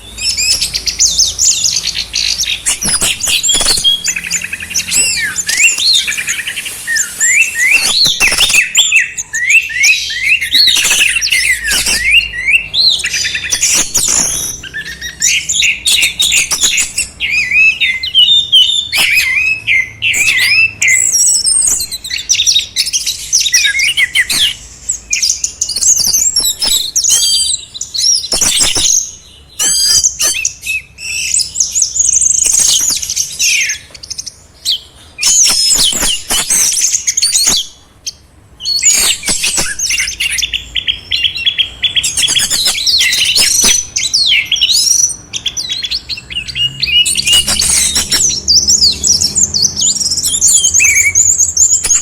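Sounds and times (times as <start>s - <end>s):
songbirds singing: 0.0s - 52.0s.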